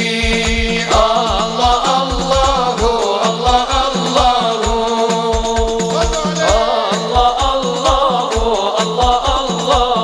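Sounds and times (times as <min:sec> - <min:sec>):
deep drum beat: 0:00.0 - 0:10.0
devotional singing through a pa: 0:00.0 - 0:10.0
frame drums: 0:00.0 - 0:10.0.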